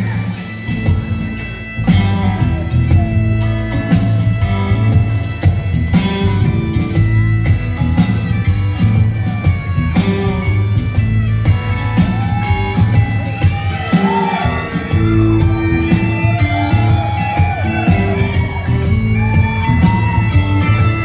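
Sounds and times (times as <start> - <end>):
bagpipes playing: 0.0 - 21.0
drum kit cymbals: 0.0 - 21.0
electric guitar: 0.0 - 21.0
upright bass: 0.0 - 21.0.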